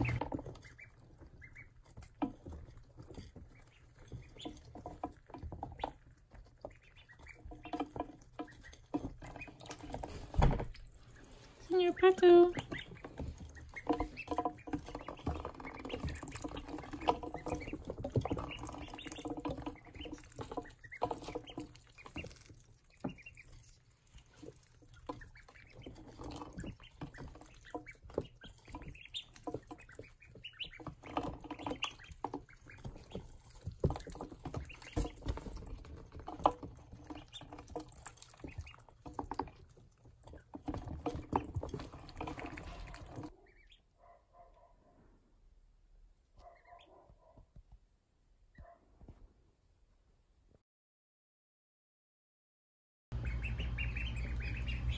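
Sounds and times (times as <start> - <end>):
ducklings peeping: 0.0 - 44.0, 46.3 - 47.0, 53.1 - 54.9
bills tapping on feed and plastic: 0.0 - 44.7, 53.1 - 54.9.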